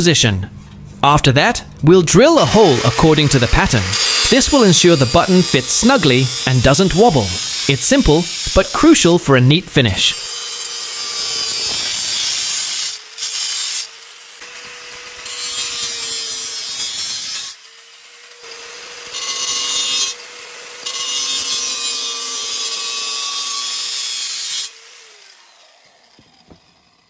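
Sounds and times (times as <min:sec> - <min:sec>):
angle grinder motor whine: 0:02.4 - 0:08.8, 0:10.2 - 0:27.0.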